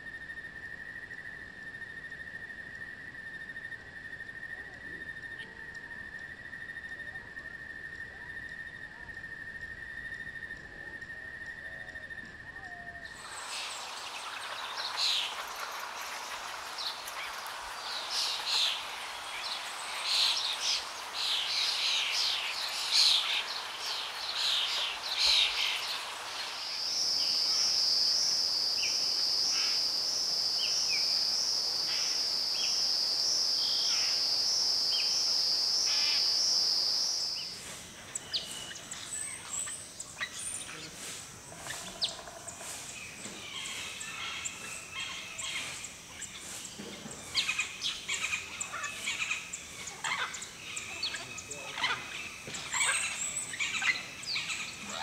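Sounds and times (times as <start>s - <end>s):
high-pitched insect drone: 0.0s - 55.0s
birds chirping: 0.7s - 55.0s.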